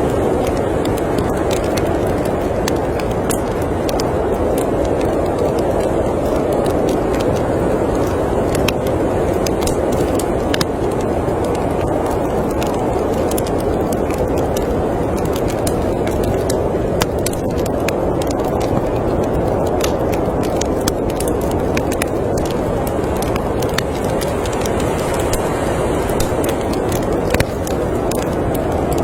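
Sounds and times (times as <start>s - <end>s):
storm wind rushing: 0.0s - 29.0s
wood fire crackling: 0.0s - 29.0s.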